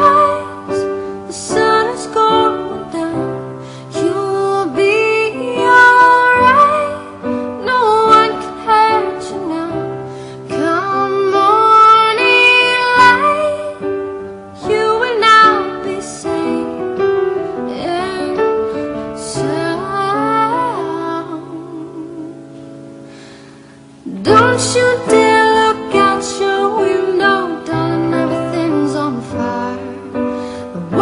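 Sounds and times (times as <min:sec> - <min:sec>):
person singing slow melody: 0:00.0 - 0:31.0
piano chords: 0:00.0 - 0:31.0.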